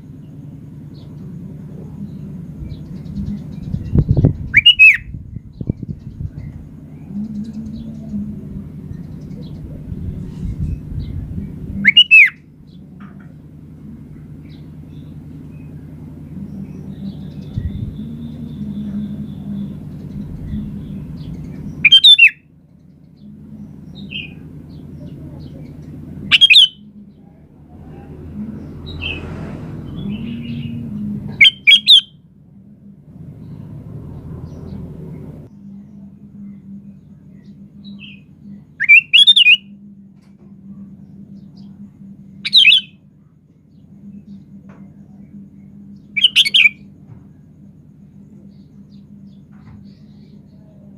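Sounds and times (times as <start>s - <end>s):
bulbul singing: 0.0s - 50.9s
low hum: 0.0s - 50.9s.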